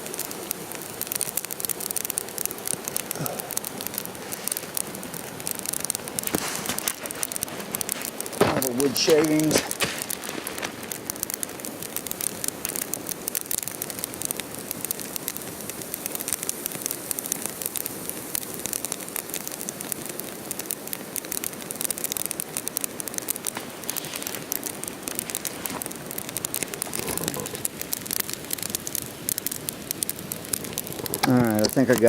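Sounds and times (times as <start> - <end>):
fire crackling: 0.0 - 32.0
fire hissing: 0.0 - 32.0.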